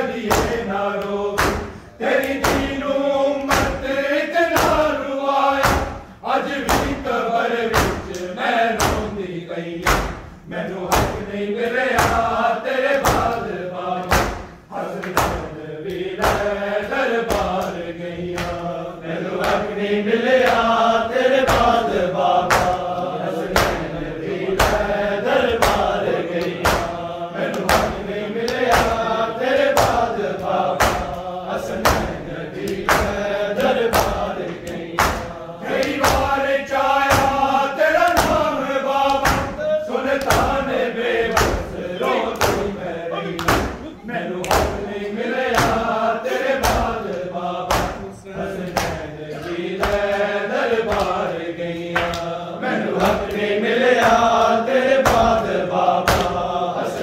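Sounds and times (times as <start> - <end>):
men chanting: 0.0 - 57.0
chest-beating slaps: 0.2 - 9.2, 9.8 - 57.0.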